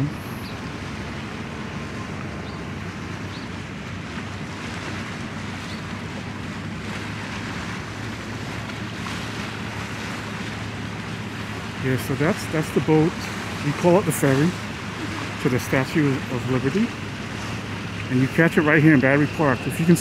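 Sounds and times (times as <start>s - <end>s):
harbour water: 0.0s - 20.0s
low even hum: 0.0s - 20.0s
wind: 0.0s - 20.0s.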